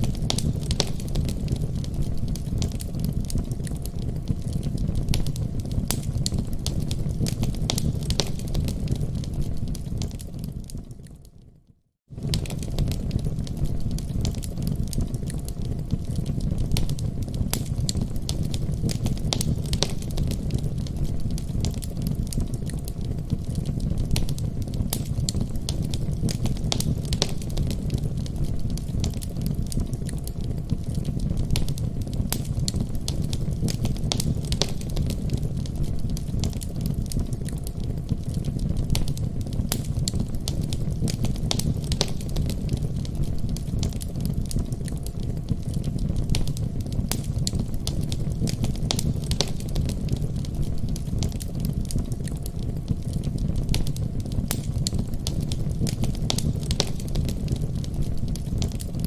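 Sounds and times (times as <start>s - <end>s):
fire pops and snaps: 0.0s - 11.4s, 12.0s - 59.0s
fireplace fire crackling: 0.0s - 59.0s
low fire rumble: 0.0s - 59.0s.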